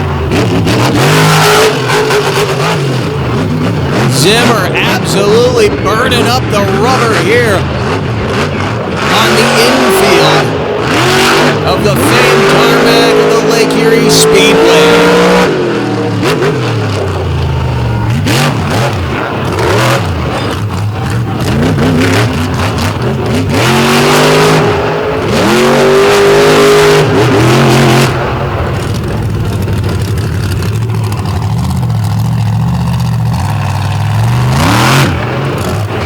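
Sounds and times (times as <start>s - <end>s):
monster truck engine revving: 0.0s - 36.0s.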